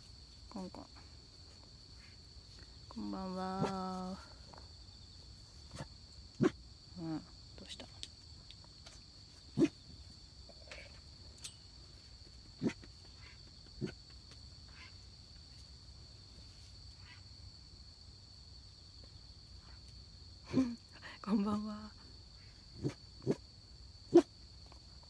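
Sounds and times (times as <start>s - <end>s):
night insects chorus: 0.0s - 25.0s.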